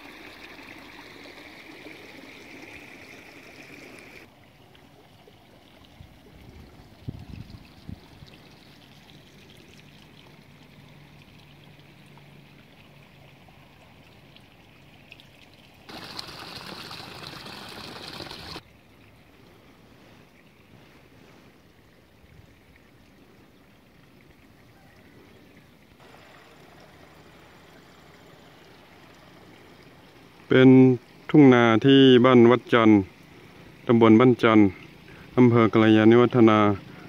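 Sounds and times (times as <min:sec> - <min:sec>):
trickle of running water: 0:00.0 - 0:37.0.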